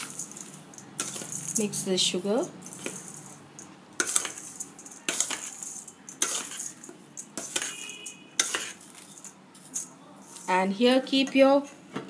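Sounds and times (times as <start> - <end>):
metal spoon scraping steel bowl: 0.0 - 10.6.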